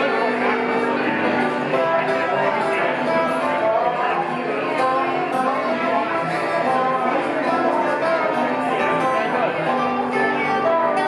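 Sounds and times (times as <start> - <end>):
banjo: 0.0 - 11.0
bowed fiddle melody: 0.0 - 11.0
strummed acoustic guitar: 0.0 - 11.0.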